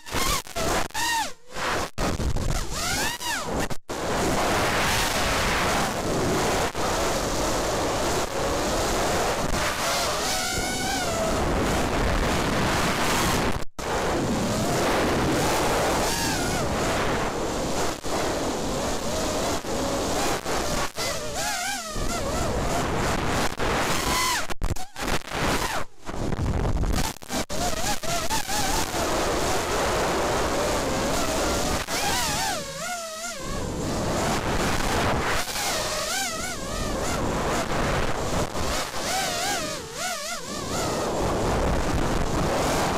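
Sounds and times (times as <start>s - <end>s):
quadcopter motors whining: 0.0s - 25.8s, 27.0s - 42.9s
wind rush on microphone: 0.0s - 42.9s.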